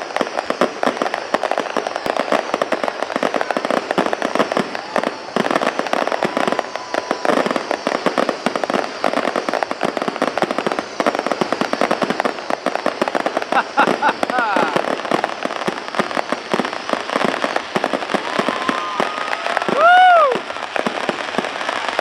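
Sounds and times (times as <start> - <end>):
fireworks barrage of bangs: 0.0 - 22.0.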